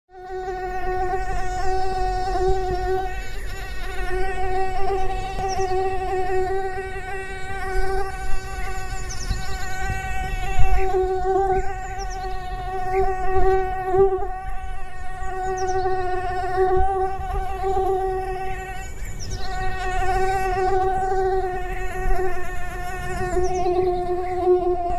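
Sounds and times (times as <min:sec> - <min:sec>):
mosquito buzzing: 0:00.1 - 0:24.9.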